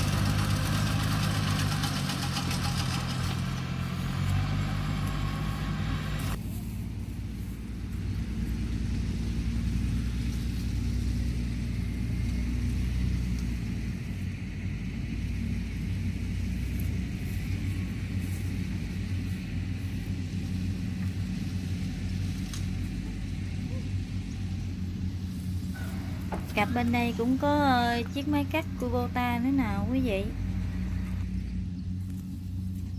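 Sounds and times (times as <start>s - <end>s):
harvest machinery engine running: 0.0s - 32.9s.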